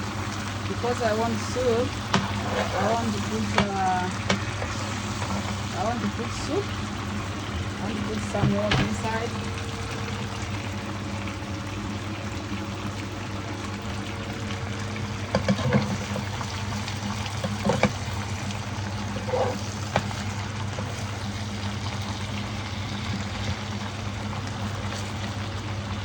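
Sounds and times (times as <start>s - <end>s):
cooking pot hissing: 0.0s - 26.0s.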